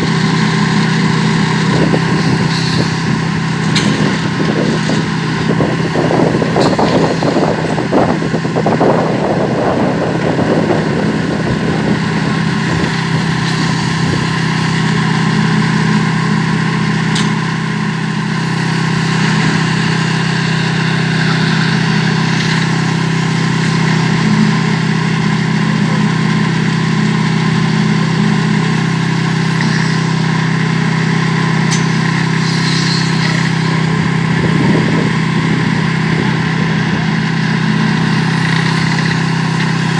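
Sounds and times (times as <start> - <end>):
rough rattling and scraping: 0.0 - 25.0, 27.7 - 39.9
small engine running: 0.0 - 39.9.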